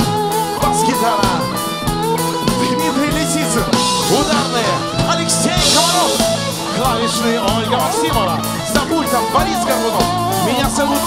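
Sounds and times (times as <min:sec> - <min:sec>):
band music with guitar and drums: 0:00.0 - 0:11.0.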